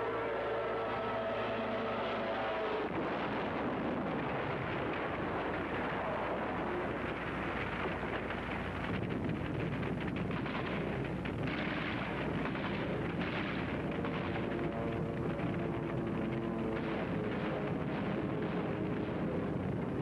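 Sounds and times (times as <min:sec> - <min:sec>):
explosions rumbling: 0:02.8 - 0:20.0
rapid gunfire: 0:03.0 - 0:20.0.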